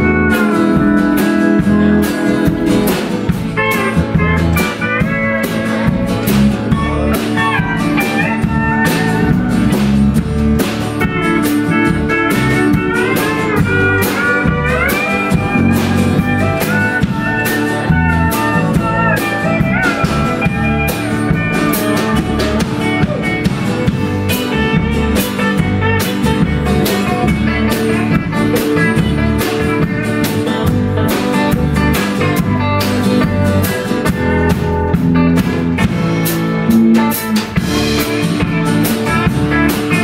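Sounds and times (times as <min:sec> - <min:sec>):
acoustic guitar: 0:00.0 - 0:40.0
drums: 0:00.0 - 0:40.0
electric bass: 0:00.0 - 0:40.0
pedal steel guitar: 0:00.0 - 0:40.0.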